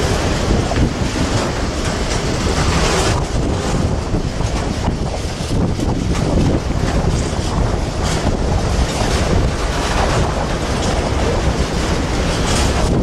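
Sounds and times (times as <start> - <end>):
freight train wheels rumbling: 0.0 - 13.0
wind buffeting microphone: 0.0 - 13.0.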